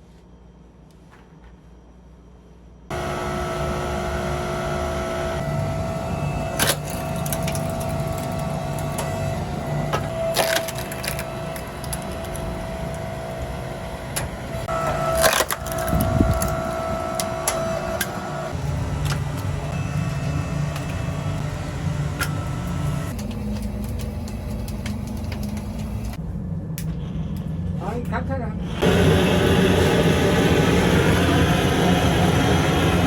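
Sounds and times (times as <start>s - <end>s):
machine hum: 1.4s - 33.0s.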